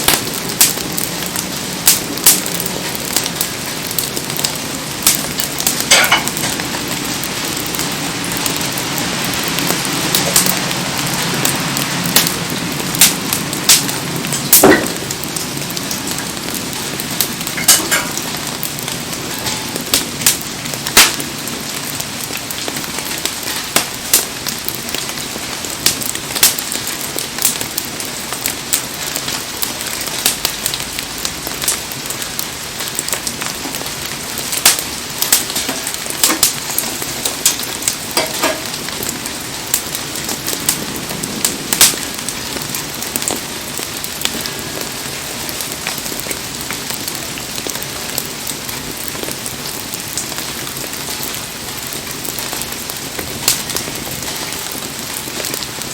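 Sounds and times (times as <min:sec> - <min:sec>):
campfire crackling and popping: 0:00.0 - 0:55.9
heavy rain falling: 0:00.0 - 0:55.9.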